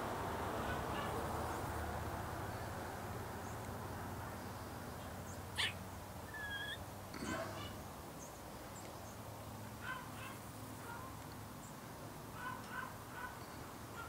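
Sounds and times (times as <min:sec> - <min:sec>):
outdoor rumble and hiss: 0:00.0 - 0:14.0.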